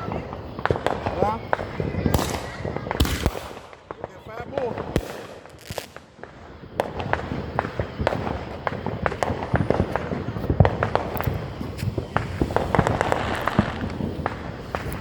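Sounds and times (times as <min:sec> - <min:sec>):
fireworks crackling and popping: 0:00.0 - 0:15.0
loud firework bangs: 0:00.0 - 0:15.0.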